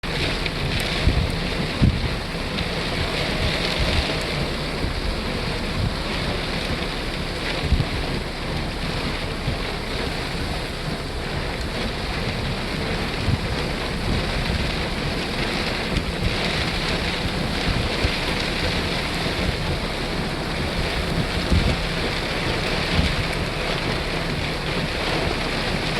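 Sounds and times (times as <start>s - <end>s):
heavy rain hissing: 0.0s - 25.9s
wind buffeting microphone: 0.0s - 25.9s.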